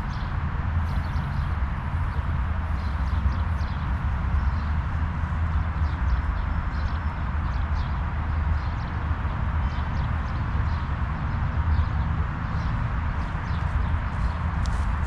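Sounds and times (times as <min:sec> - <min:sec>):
small birds chirping: 0:00.0 - 0:15.0
wind rumbling on microphone: 0:00.0 - 0:15.0.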